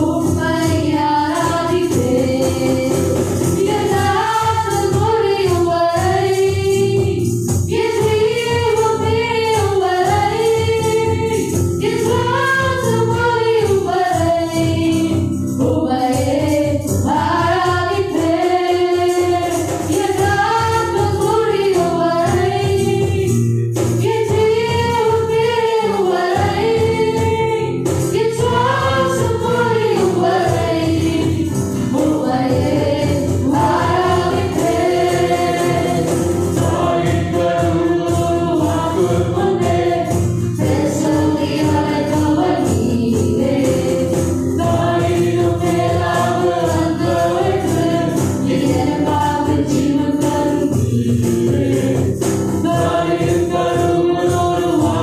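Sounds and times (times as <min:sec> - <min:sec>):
acoustic guitar: 0:00.0 - 0:55.0
backing voices singing: 0:00.0 - 0:55.0
woman singing lead: 0:00.0 - 0:55.0.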